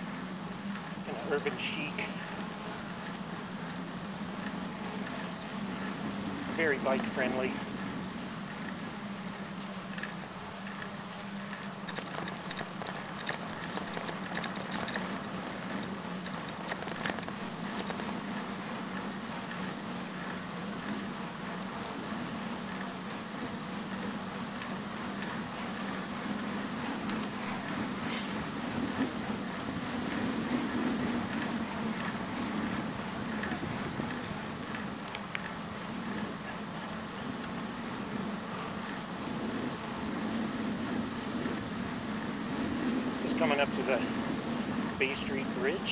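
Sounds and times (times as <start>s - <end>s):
bicycle rolling on pavement: 0.0s - 45.9s
faint clicks and rattles: 0.6s - 21.6s, 22.5s - 45.9s.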